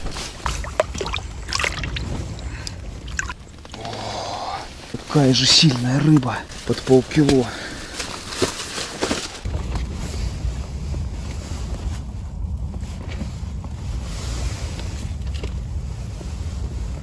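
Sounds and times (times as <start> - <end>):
strong wind buffeting microphone: 0.0 - 7.9, 9.4 - 17.0.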